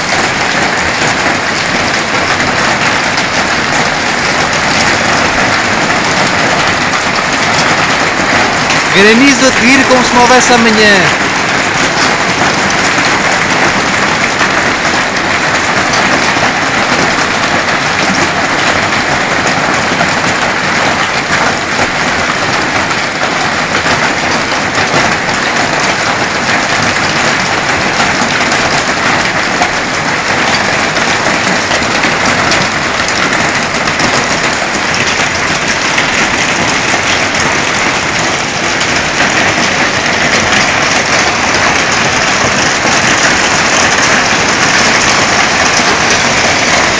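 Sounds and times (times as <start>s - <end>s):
heavy hail clattering: 0.0s - 46.9s.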